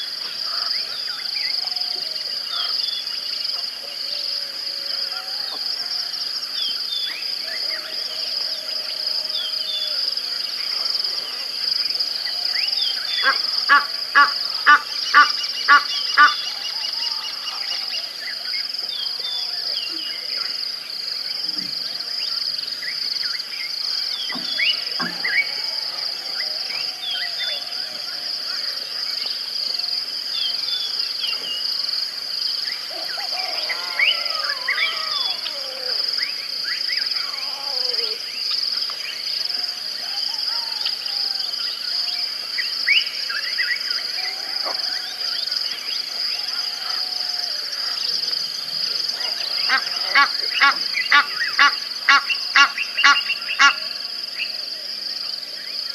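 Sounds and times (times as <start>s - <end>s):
high-pitched insect drone: 0.0s - 55.9s.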